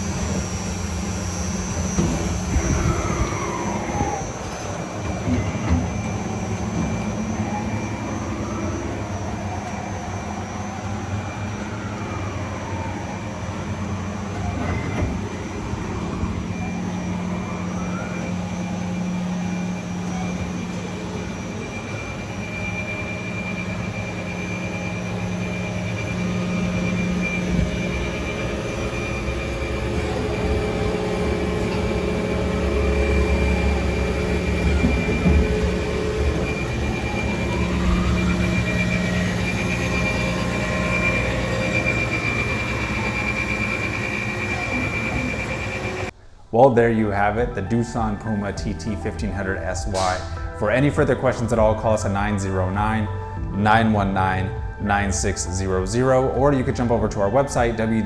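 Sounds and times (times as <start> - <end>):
machine hum with high whine: 0.0 - 58.0
whines rising and falling: 0.0 - 58.0.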